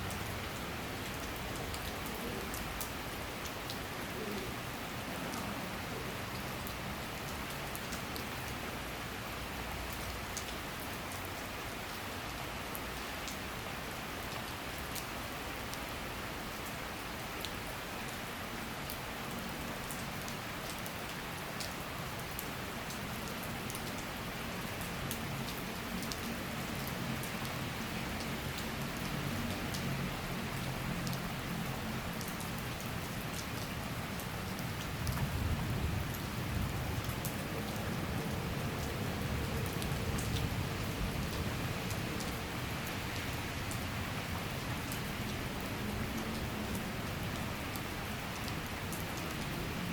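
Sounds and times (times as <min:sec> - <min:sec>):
raindrops ticking on surfaces: 0:00.0 - 0:49.9.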